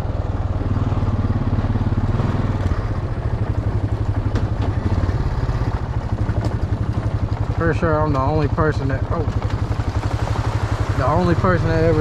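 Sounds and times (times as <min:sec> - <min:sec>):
atv engine under load: 0:00.0 - 0:12.0.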